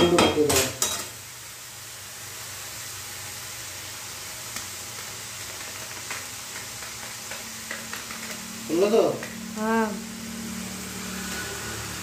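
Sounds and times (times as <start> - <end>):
stir-fry sizzling: 0.0 - 12.0.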